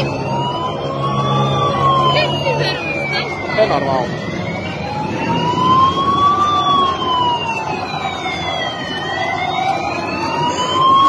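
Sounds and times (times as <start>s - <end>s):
crowd and street noise: 0.0s - 11.0s
emergency siren wailing: 0.0s - 11.0s.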